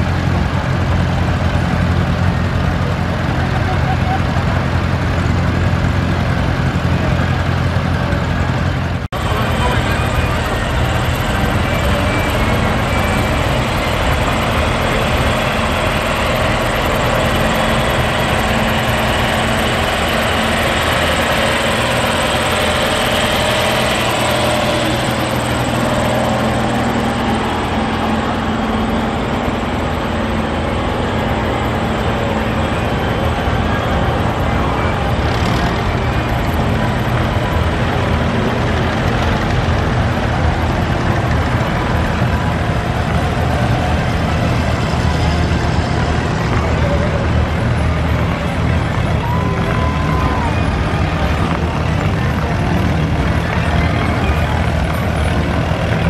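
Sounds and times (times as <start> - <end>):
tractor engines driving past: 0.0 - 56.0.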